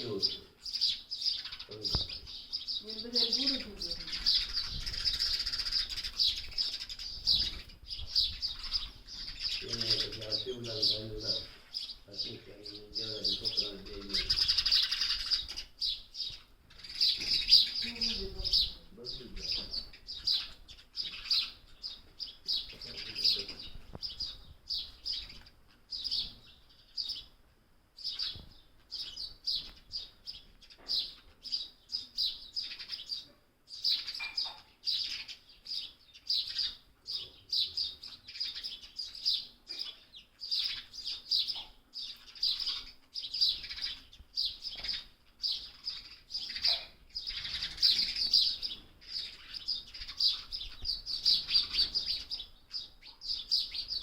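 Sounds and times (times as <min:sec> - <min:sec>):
young bird chirping: 0:00.0 - 0:27.4, 0:28.0 - 0:54.0.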